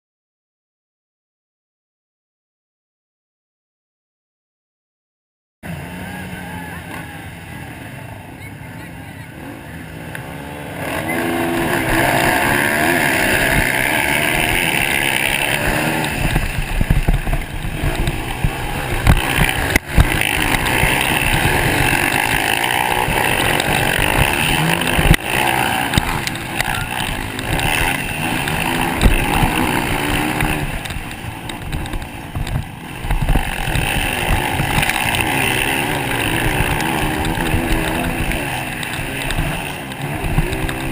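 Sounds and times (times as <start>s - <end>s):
motocross engines revving: 5.6s - 40.9s.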